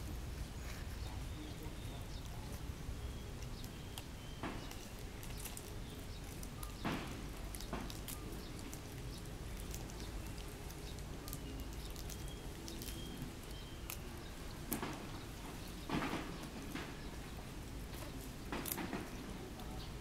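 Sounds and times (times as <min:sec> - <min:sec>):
dry leaves crackling and rustling: 0:00.0 - 0:20.0.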